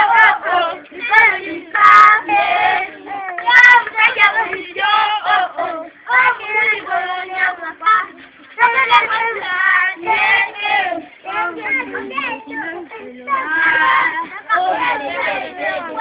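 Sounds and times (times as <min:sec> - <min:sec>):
young children singing: 0:00.0 - 0:16.0.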